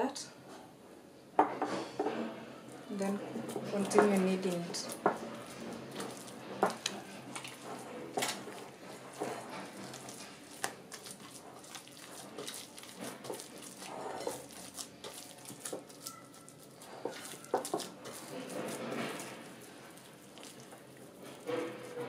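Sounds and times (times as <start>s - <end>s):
dough squelching and slapping: 2.8s - 22.0s.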